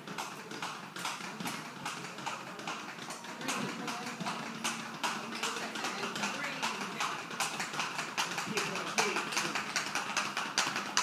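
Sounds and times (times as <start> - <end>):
horse hoofbeats: 0.0 - 11.0.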